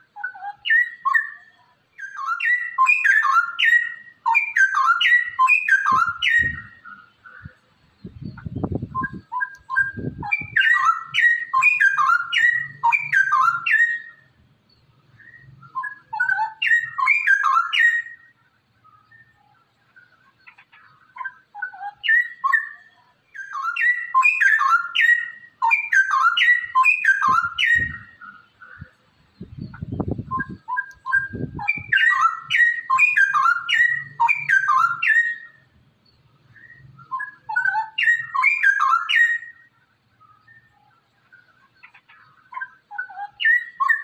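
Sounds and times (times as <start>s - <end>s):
bird singing bubbling warble: 0.0s - 18.3s, 18.9s - 44.0s.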